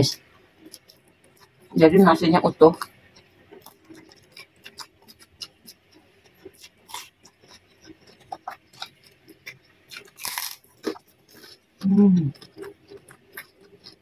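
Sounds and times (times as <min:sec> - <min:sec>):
crackers crunching in mouth: 0:02.8 - 0:14.0.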